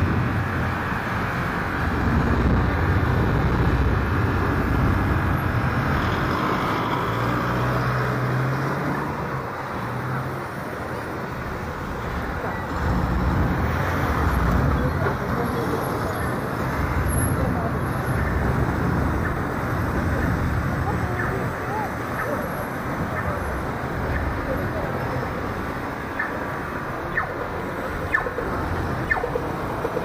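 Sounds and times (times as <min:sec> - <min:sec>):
cars driving past: 0:00.0 - 0:30.0.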